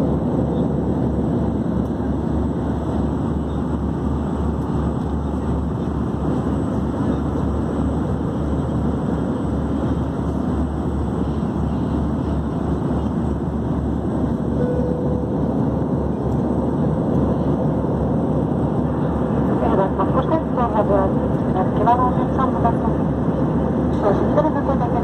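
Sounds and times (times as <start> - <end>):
airplane cabin engine roar: 0.0 - 25.0.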